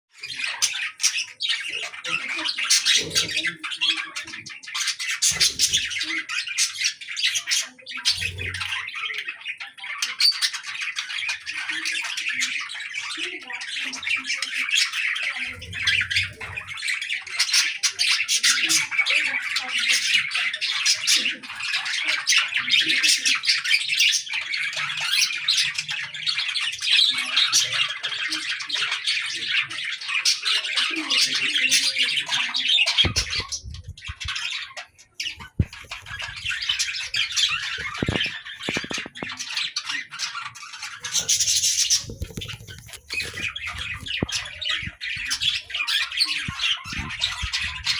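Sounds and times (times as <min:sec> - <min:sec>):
small birds chirping and squawking: 0:00.1 - 0:47.9.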